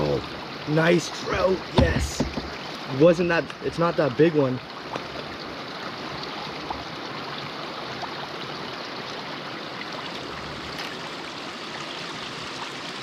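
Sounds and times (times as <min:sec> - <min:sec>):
flowing creek water: 0:00.0 - 0:13.0.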